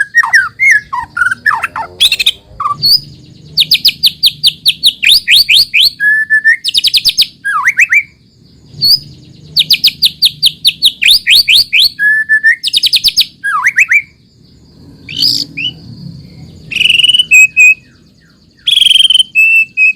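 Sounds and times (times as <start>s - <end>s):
bird whistling: 0.0s - 14.2s, 15.0s - 19.9s
bird singing sweeping notes: 0.0s - 19.9s.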